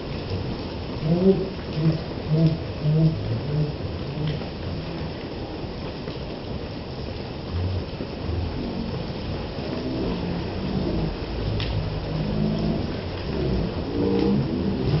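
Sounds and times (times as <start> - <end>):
heavy rain: 0.0 - 15.0
low rumble: 0.0 - 15.0.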